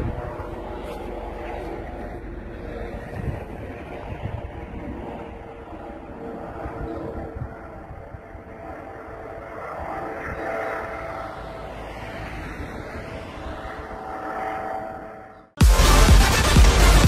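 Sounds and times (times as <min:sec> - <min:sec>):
helicopter flying away: 0:00.0 - 0:17.0.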